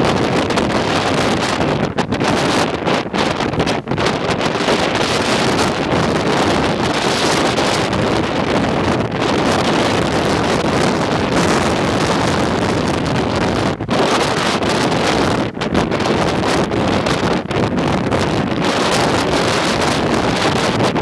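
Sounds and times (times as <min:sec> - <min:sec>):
heavy surf breaking: 0:00.0 - 0:21.0
storm wind on microphone: 0:00.0 - 0:21.0.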